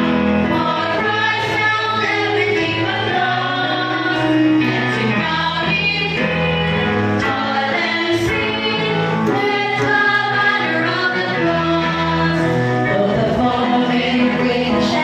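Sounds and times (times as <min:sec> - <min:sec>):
group singing a worship song: 0:00.0 - 0:15.0
musical accompaniment: 0:00.0 - 0:15.0.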